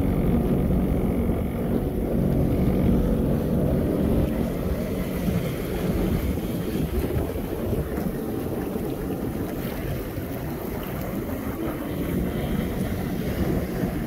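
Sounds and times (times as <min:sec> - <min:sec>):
watercraft engine rumble: 0:00.0 - 0:14.0
wind buffeting microphone: 0:00.0 - 0:14.0.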